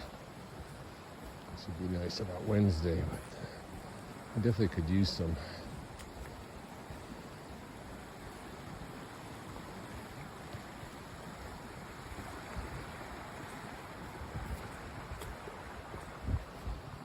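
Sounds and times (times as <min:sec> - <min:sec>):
creek flowing over rocks: 0:00.0 - 0:17.0.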